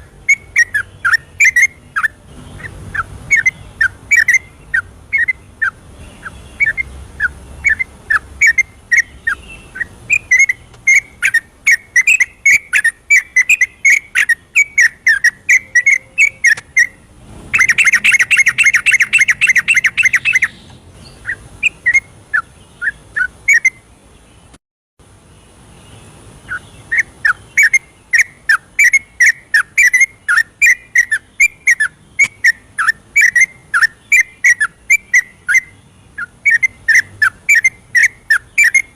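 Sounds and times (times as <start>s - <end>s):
bird singing whistled notes: 0.0s - 24.5s, 25.8s - 38.9s.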